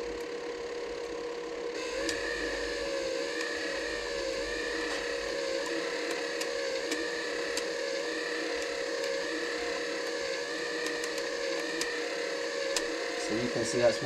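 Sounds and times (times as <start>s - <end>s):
motor whine wobbling: 0.0s - 14.0s.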